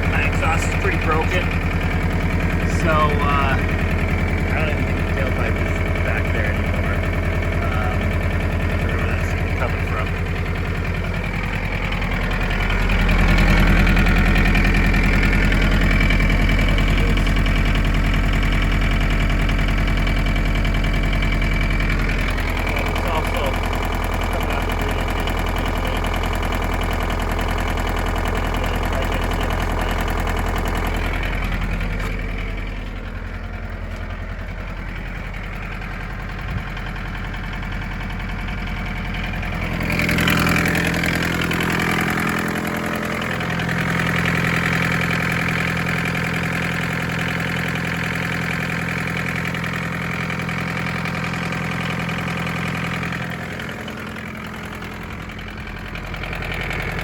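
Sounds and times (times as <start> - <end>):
diesel engine knocking: 0.0 - 57.0.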